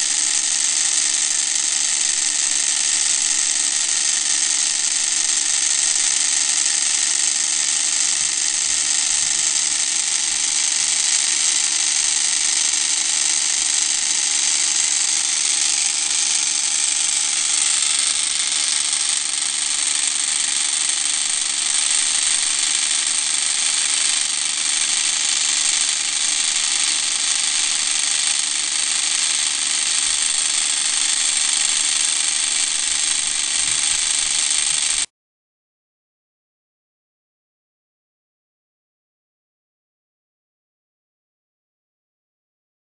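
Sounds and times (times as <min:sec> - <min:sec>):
rotors spinning: 0:00.0 - 0:35.1
small electric motor whirring: 0:00.0 - 0:35.1.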